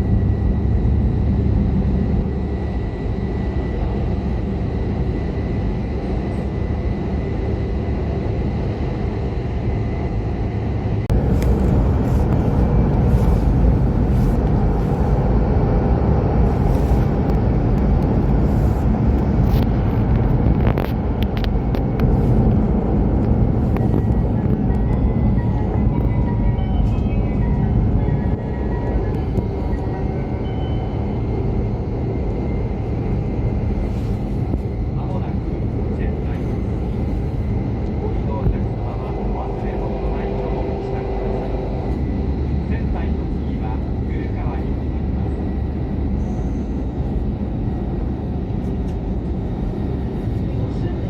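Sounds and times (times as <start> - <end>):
train rumble: 0.0 - 51.0.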